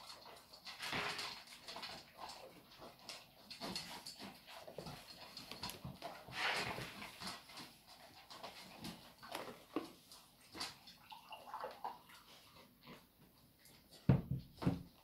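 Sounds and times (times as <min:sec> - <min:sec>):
dogs eating from metal bowls: 0:00.0 - 0:15.0.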